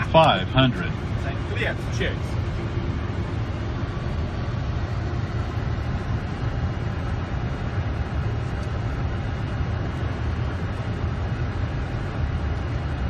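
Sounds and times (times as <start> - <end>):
aircraft engine noise: 0.0 - 13.0
airflow rumble: 0.0 - 13.0.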